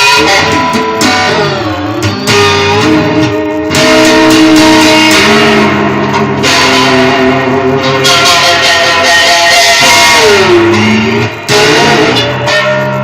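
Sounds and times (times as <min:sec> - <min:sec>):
held pitched musical notes: 0:00.0 - 0:13.0.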